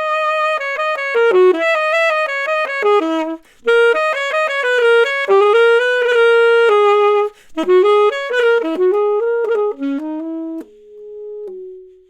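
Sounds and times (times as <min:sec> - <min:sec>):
solo saxophone melody: 0:00.0 - 0:12.0.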